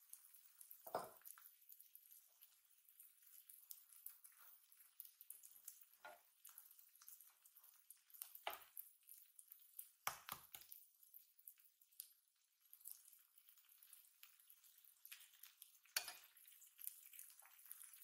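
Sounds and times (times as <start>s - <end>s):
food sizzling on a griddle: 0.0s - 11.3s, 13.2s - 18.0s.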